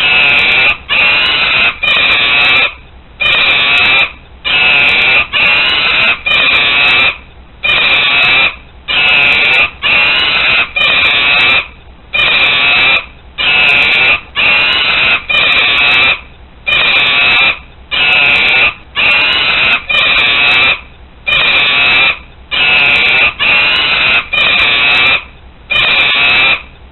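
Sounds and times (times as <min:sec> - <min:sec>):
monkey screaming: 0:00.0 - 0:26.7.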